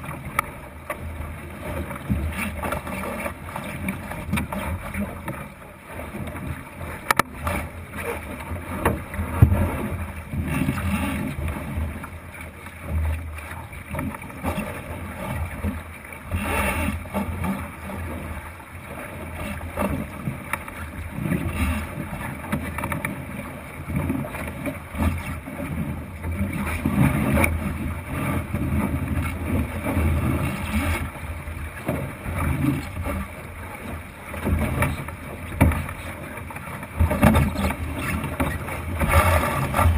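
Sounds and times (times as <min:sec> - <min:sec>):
water slapping wooden hull: 0:00.0 - 0:39.9.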